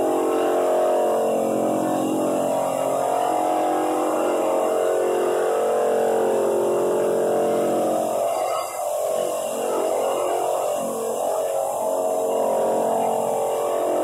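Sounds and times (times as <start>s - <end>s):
floor drum sander running: 0.0s - 14.0s
shop vacuum running: 0.0s - 14.0s.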